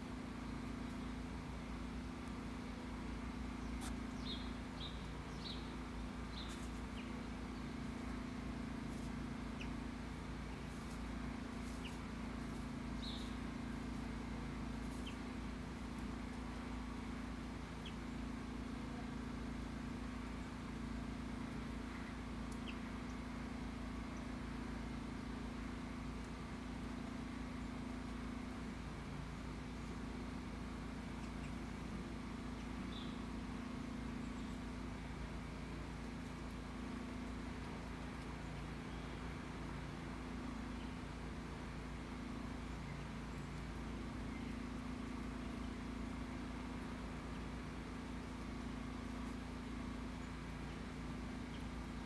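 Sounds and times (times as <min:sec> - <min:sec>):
constant hum: 0:00.0 - 0:52.0
low outdoor rumble: 0:00.0 - 0:52.0
small birds chirping: 0:00.0 - 0:52.0.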